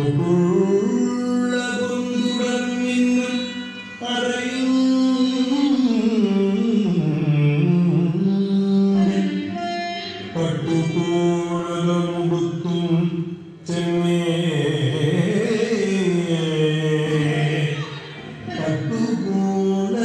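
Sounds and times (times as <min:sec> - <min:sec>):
instrumental accompaniment: 0:00.0 - 0:20.0
voice singing ornamented notes: 0:00.0 - 0:20.0.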